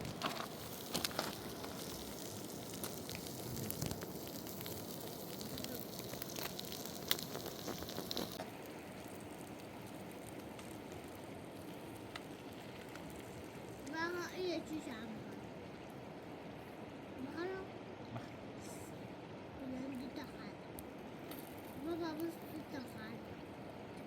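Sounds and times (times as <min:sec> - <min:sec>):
wood fire crackling: 0:00.0 - 0:17.5, 0:20.8 - 0:24.0.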